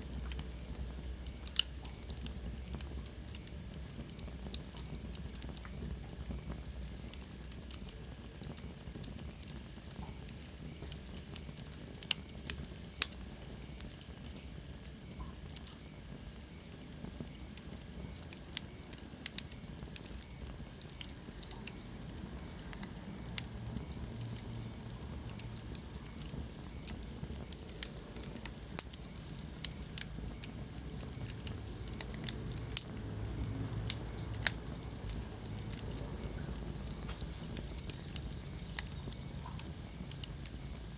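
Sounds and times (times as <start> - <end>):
fire crackling and popping: 0.0 - 40.9
fire rumble and hiss: 0.0 - 40.9.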